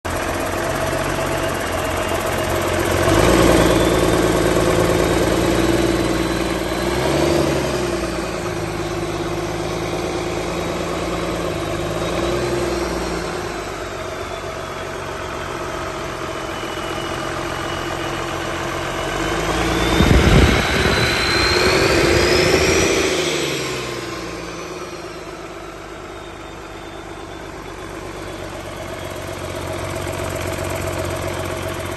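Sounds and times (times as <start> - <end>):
diesel engine revving: 0.1 - 31.9
engine whine: 0.1 - 31.9.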